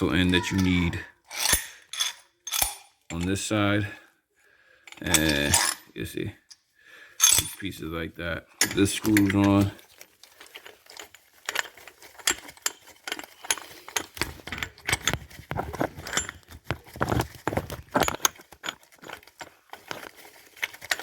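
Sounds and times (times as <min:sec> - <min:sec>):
metal tool parts clinking: 0:00.0 - 0:03.5, 0:04.9 - 0:05.9, 0:07.2 - 0:07.8, 0:08.6 - 0:21.0.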